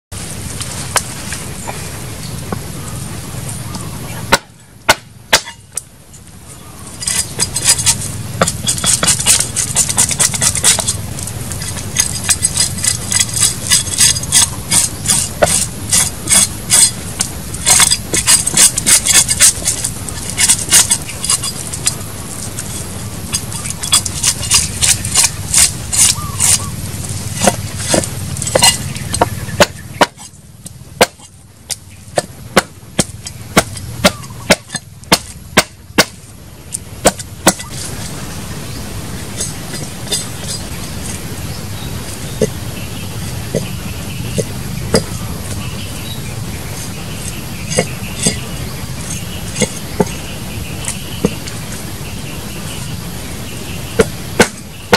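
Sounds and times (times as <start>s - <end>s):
cleaver scraping fish scales: 6.9s - 36.1s, 37.0s - 54.7s.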